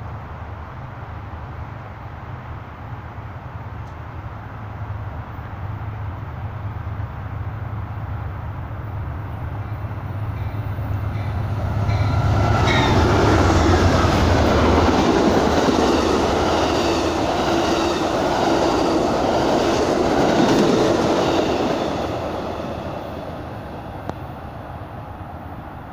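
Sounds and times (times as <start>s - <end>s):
diesel locomotive engine hum: 0.0s - 25.9s
train wheels rumbling on rails: 5.0s - 25.9s.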